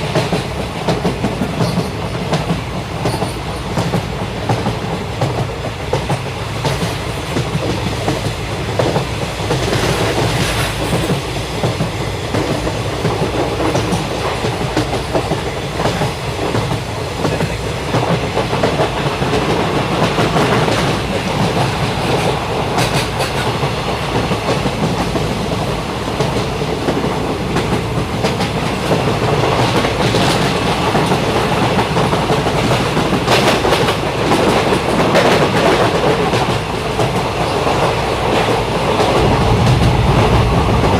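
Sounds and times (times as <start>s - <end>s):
train coach rumble: 0.0s - 40.9s.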